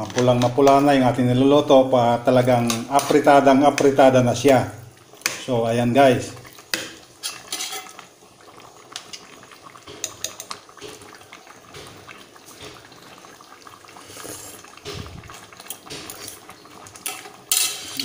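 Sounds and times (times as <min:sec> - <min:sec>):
sauce bubbling and popping: 0:00.0 - 0:18.0.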